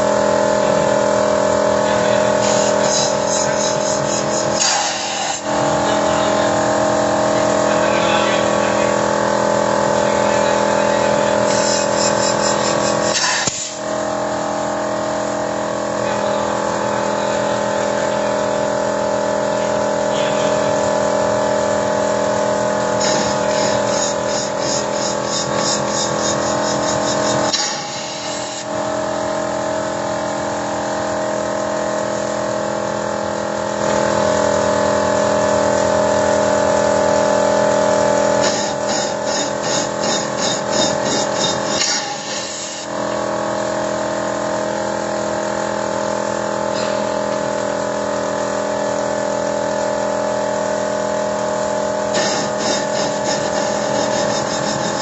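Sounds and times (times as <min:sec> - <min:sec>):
machinery hum with whine: 0:00.0 - 0:55.0.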